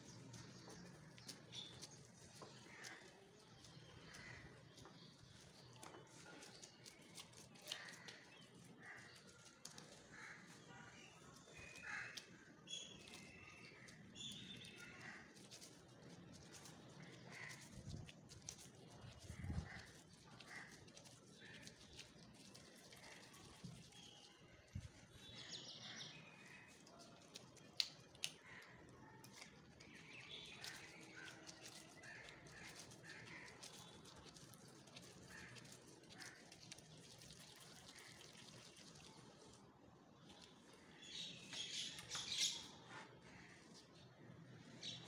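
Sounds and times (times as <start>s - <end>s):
gloved hands rolling dough: 0.0s - 44.2s.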